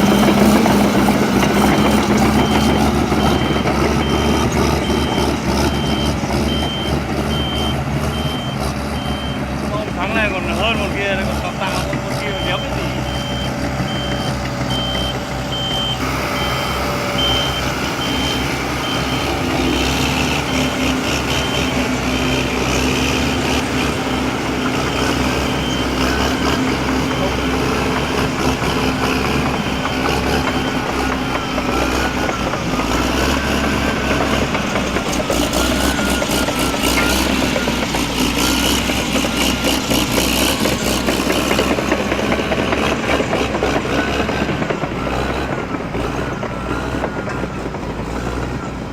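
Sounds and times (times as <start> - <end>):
heavy vehicle engine running: 0.0 - 48.9
reversing alarm beeping: 0.6 - 34.6, 35.2 - 48.9.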